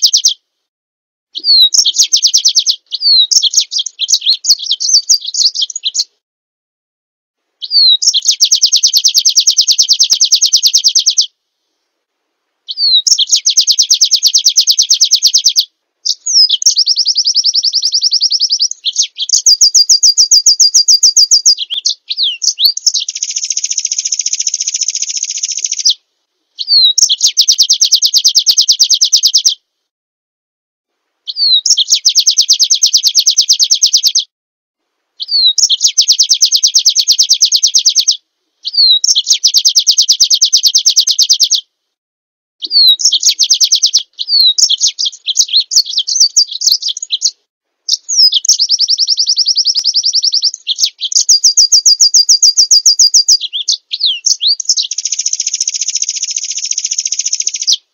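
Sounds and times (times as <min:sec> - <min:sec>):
songbird trilling: 0:00.0 - 0:00.4, 0:01.4 - 0:06.1, 0:07.6 - 0:11.3, 0:12.7 - 0:26.0, 0:26.6 - 0:29.6, 0:31.3 - 0:34.3, 0:35.2 - 0:41.6, 0:42.6 - 0:57.9.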